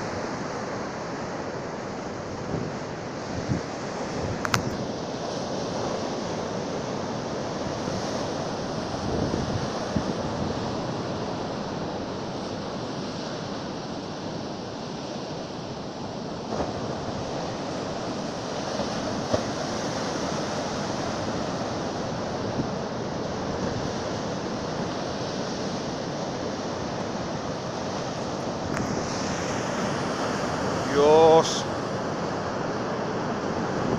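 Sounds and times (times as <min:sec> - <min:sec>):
heavy waves breaking on shore: 0:00.0 - 0:33.9.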